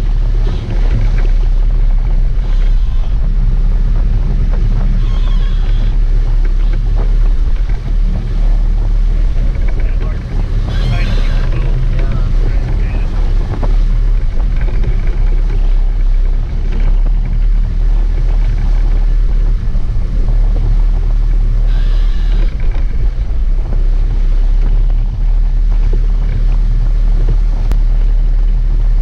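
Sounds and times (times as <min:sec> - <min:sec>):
boat engines rumbling: 0:00.0 - 0:29.0
wind buffeting microphone: 0:00.0 - 0:29.0.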